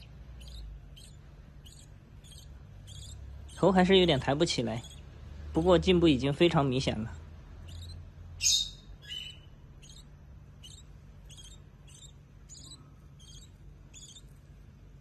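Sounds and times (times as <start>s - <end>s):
bird chick peeping: 0.0s - 5.7s, 7.5s - 15.0s.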